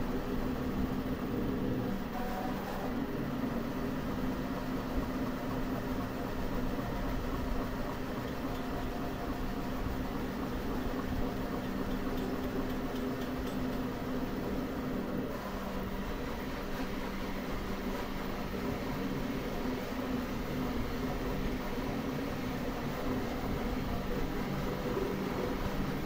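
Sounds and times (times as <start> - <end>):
three-d printer motors and fans humming: 0.0 - 26.0.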